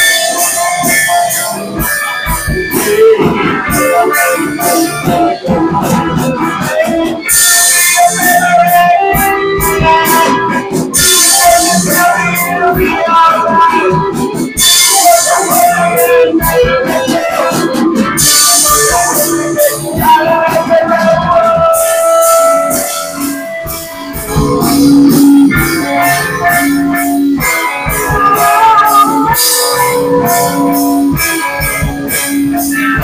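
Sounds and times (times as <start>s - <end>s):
drum kit with cymbals: 0.0s - 33.0s
live rock band playing: 0.0s - 33.0s.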